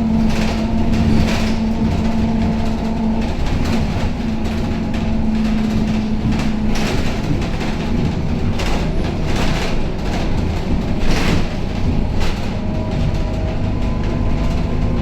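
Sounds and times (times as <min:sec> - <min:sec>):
bus diesel engine droning: 0:00.0 - 0:15.0
rattling noise: 0:00.0 - 0:15.0
road noise: 0:00.0 - 0:15.0.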